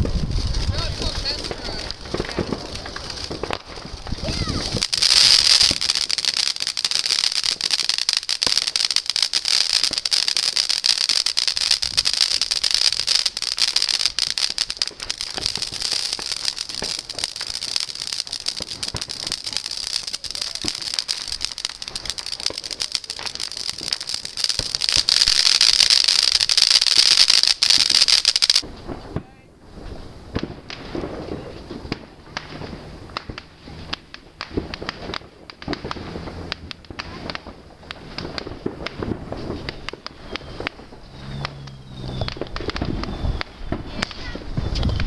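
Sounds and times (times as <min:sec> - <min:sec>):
firework hissing and crackling: 0:00.0 - 0:45.0.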